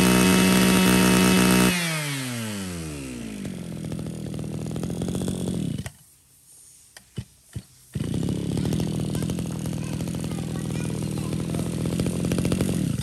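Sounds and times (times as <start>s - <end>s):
brush cutter engine idling: 0.0s - 6.1s, 7.0s - 13.0s.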